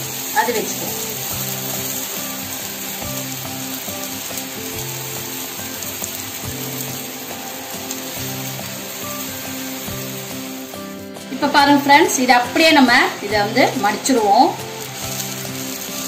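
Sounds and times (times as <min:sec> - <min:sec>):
background music: 0:00.0 - 0:16.0
dosa sizzling on a hot pan: 0:00.0 - 0:16.0.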